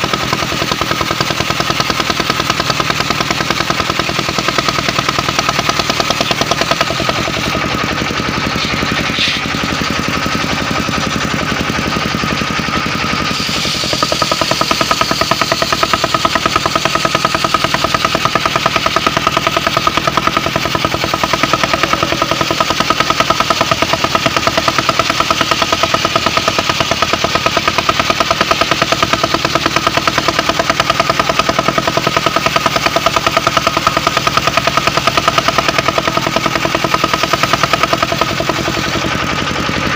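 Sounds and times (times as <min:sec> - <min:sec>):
circular sawmill running: 0:00.0 - 0:39.9.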